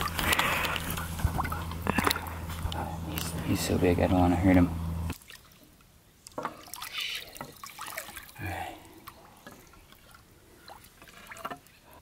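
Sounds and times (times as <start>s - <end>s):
water splashing and dripping: 0.0s - 3.3s, 5.1s - 12.0s.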